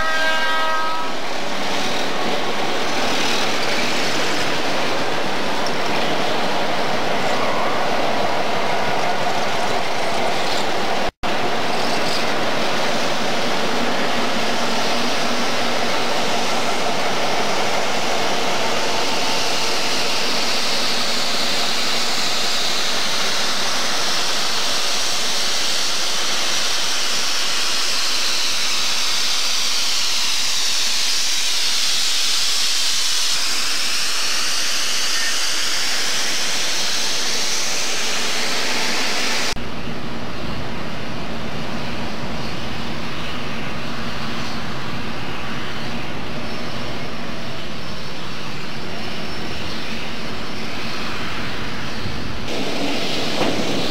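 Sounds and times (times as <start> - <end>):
diesel locomotives passing: 0.0 - 53.9.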